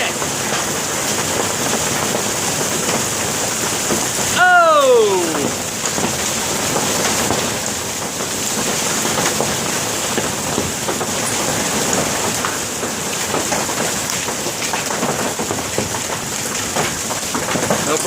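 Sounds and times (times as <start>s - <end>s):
hail and rain pelting down: 0.0s - 18.0s.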